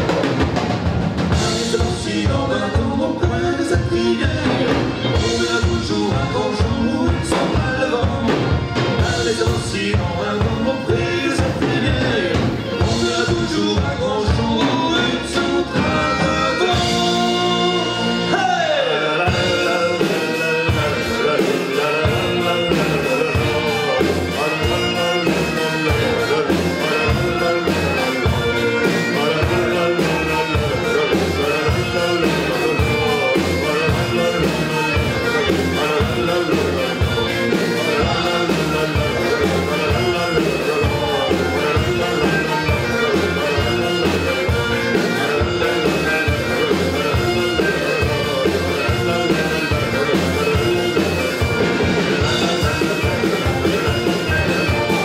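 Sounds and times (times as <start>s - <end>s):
rock band playing: 0.0s - 55.0s
steady drum beat: 0.0s - 55.0s
wind instrument melody: 0.0s - 55.0s.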